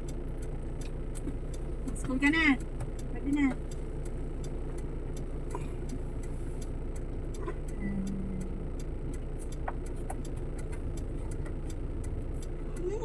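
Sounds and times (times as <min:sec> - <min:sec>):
faint high ticks: 0:00.0 - 0:13.0
low steady tone: 0:00.0 - 0:13.0
vehicle engine running: 0:00.0 - 0:13.0.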